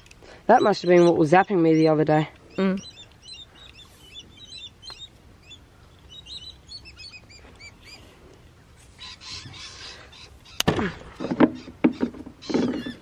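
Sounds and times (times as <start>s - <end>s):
small birds chirping: 0.0s - 10.8s, 11.6s - 13.0s.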